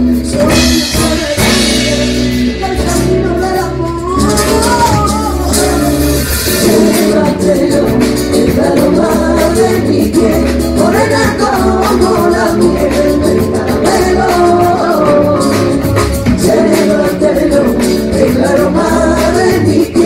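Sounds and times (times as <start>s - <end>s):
live latin music: 0.0s - 20.0s
person singing: 0.0s - 20.0s.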